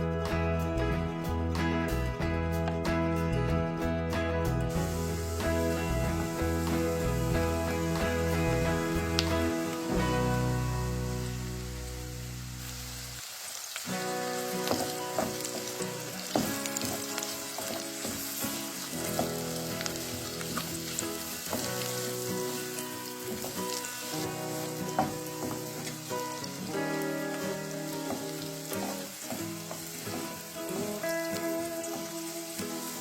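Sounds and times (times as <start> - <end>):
food sizzling in skillet: 4.7 - 33.0.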